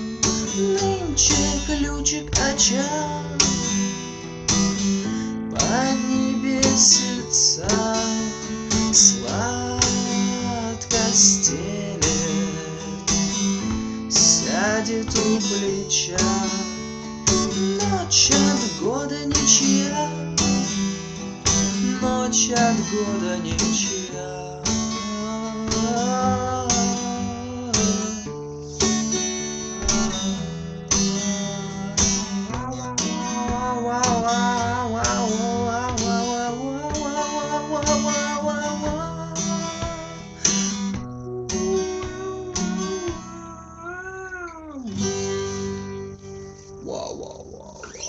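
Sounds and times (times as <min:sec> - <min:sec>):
man singing wordless melody: 0:00.0 - 0:04.6, 0:05.3 - 0:45.4, 0:46.8 - 0:48.0
acoustic guitar strumming: 0:00.0 - 0:48.0.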